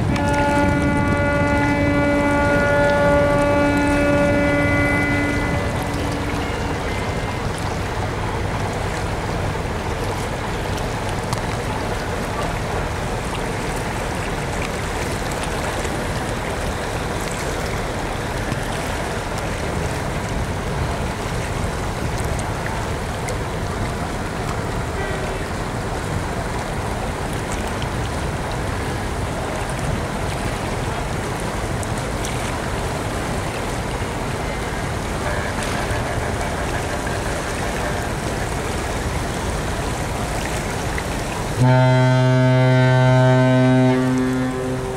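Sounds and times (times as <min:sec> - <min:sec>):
boat engine hum: 0:00.0 - 0:44.9
rushing water: 0:00.0 - 0:44.9.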